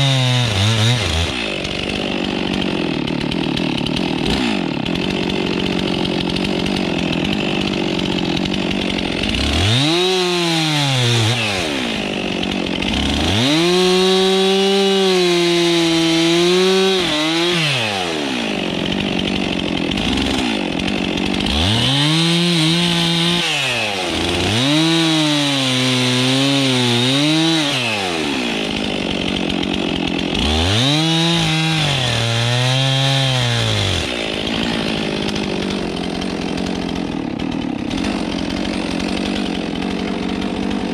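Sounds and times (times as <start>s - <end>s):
chainsaw cutting wood: 0.0s - 40.9s
chainsaw idling: 0.0s - 40.9s.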